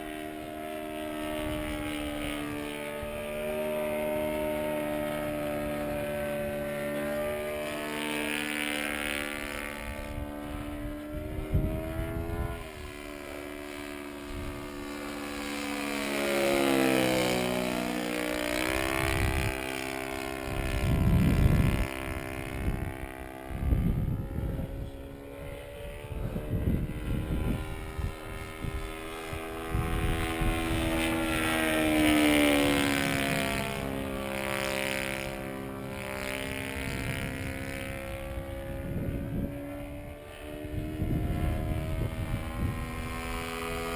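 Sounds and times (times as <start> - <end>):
model plane engine flying overhead: 0.0 - 43.9
wind buffeting microphone: 0.0 - 43.9.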